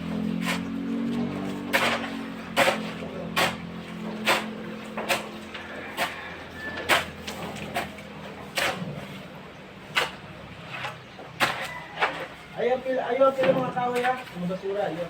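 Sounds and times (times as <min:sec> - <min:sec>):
hand tools striking soil and rubble: 0:00.0 - 0:15.0.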